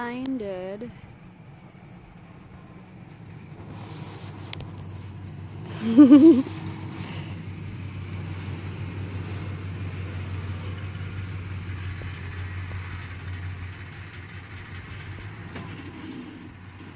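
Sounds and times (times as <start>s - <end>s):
pickup truck engine humming: 0.0s - 16.9s.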